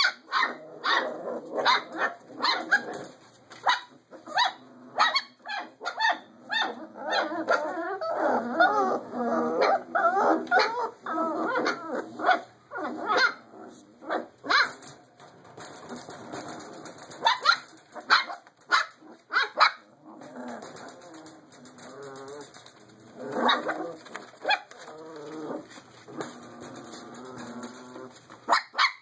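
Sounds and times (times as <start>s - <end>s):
puppies wavering cries: 0.0s - 15.0s, 15.8s - 29.0s
puppies barking and yipping: 0.0s - 29.0s.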